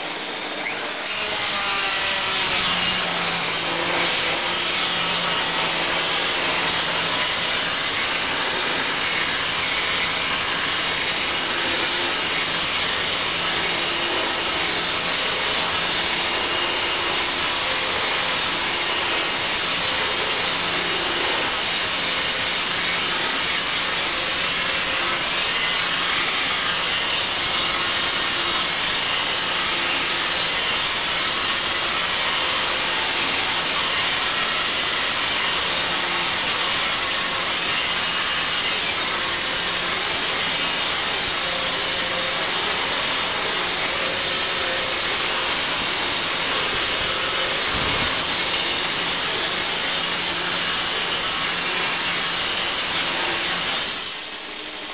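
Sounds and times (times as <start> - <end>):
angle grinder stripping rust: 0.0 - 54.9.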